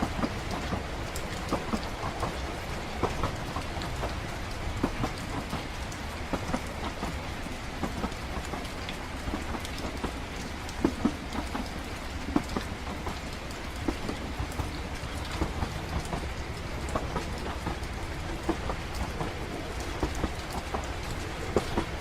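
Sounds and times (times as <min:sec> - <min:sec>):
moving train rumble: 0:00.0 - 0:22.0
steady rain: 0:00.0 - 0:22.0.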